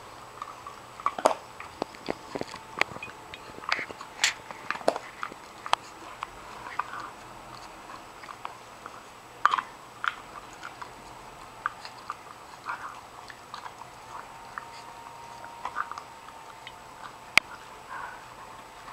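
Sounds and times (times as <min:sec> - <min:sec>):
dog gnawing hard chew: 0:00.0 - 0:18.9.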